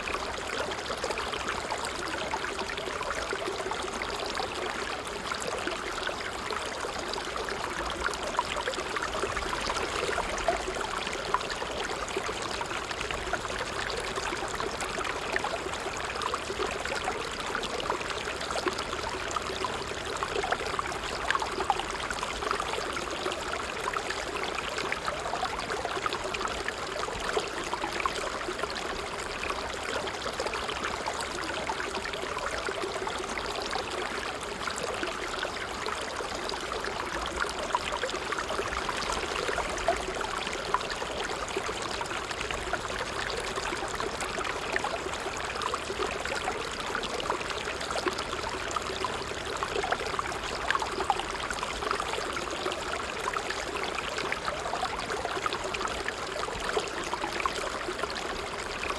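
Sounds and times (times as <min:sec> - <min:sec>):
water babbling over stones: 0:00.0 - 0:58.9.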